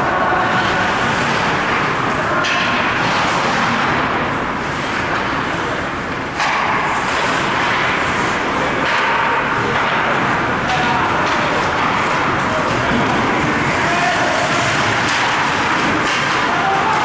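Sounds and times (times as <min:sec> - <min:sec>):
ice hockey rink noise: 0:00.0 - 0:17.0.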